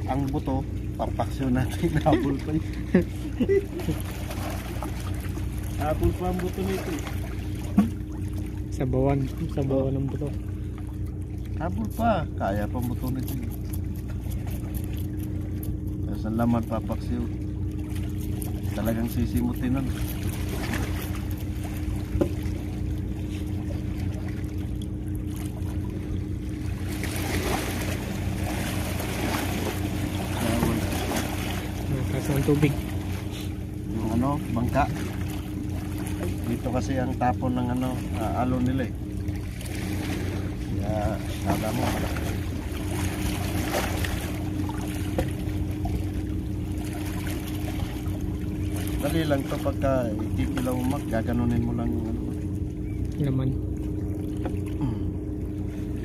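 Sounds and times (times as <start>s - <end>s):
boat engine humming: 0.0s - 56.0s
water noise: 0.0s - 56.0s
wind: 0.0s - 56.0s.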